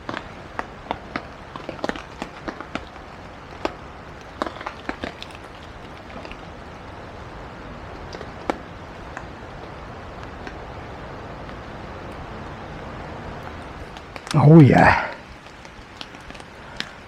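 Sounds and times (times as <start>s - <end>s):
campfire crackling and popping: 0.0s - 17.0s
fire hiss: 0.0s - 17.0s.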